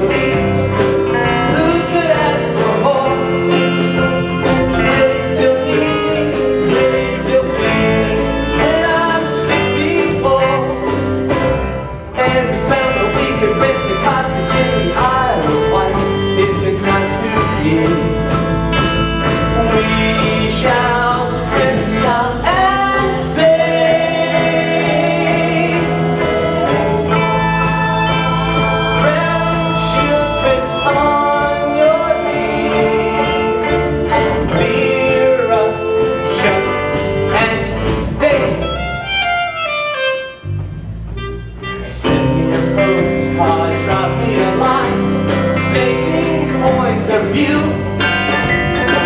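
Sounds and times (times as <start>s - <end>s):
live band and singers performing: 0.0s - 49.0s.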